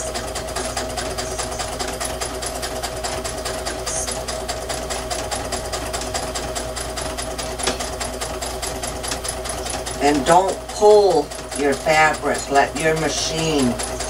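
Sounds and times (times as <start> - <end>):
sewing machine motor hum: 0.0 - 14.0
sewing machine needle ticking: 0.0 - 14.0.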